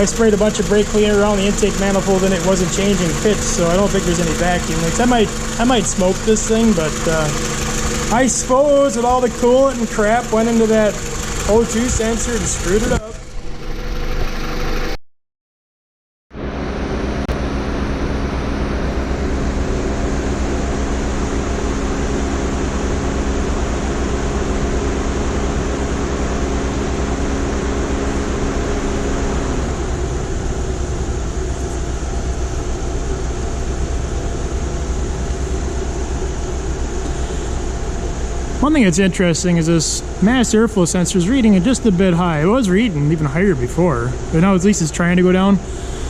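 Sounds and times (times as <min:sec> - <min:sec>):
car engine running: 0:00.0 - 0:15.0, 0:16.4 - 0:46.0
low hum: 0:00.0 - 0:15.0, 0:16.3 - 0:46.0.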